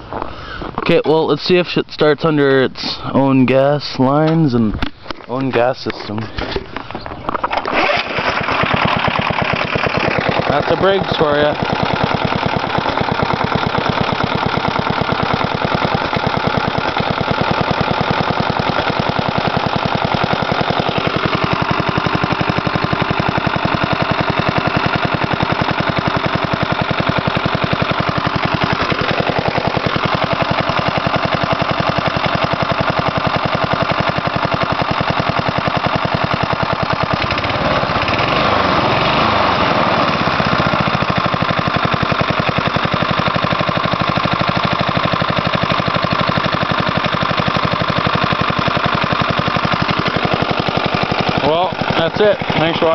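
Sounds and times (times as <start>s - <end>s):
lawn mower engine running: 2.0s - 52.9s.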